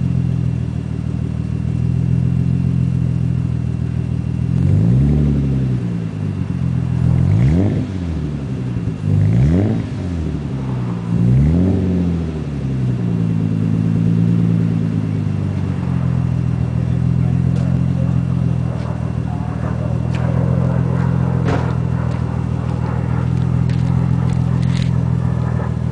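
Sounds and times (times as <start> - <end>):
car engine revving and idling: 0.0 - 25.9.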